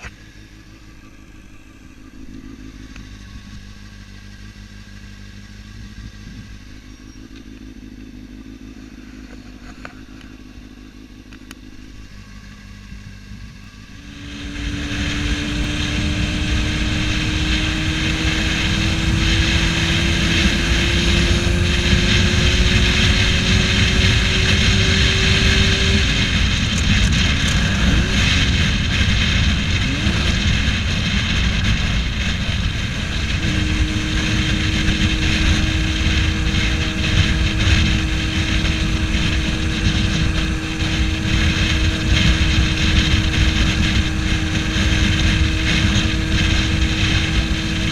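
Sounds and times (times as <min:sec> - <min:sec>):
loud riding noise: 0:00.0 - 0:47.9
motorcycle engine accelerating: 0:00.0 - 0:47.9.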